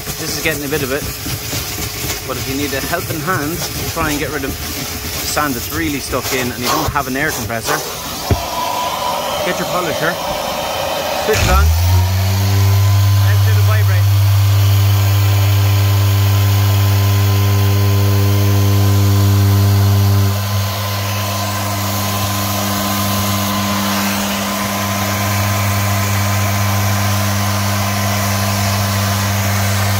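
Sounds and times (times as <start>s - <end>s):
car polisher motor hum: 0.0s - 29.9s.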